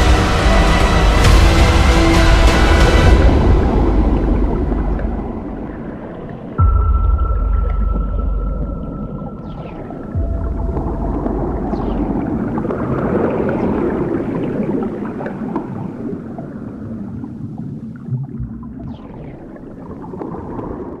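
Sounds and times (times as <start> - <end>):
low underwater rumble: 0.0 - 21.0
underwater rushing wash: 0.0 - 21.0.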